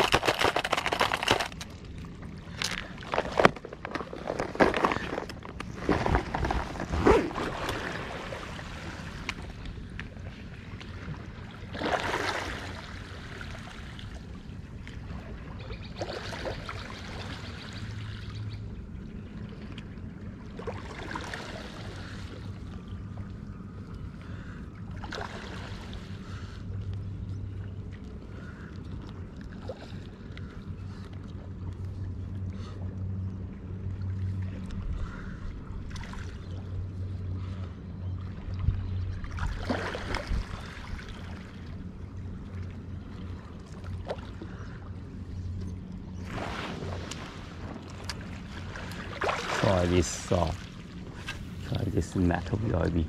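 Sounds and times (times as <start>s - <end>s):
waves lapping against a stone seawall: 0.0s - 18.5s, 19.5s - 31.8s, 38.3s - 45.0s, 46.2s - 53.0s
low steady hum: 0.0s - 53.0s.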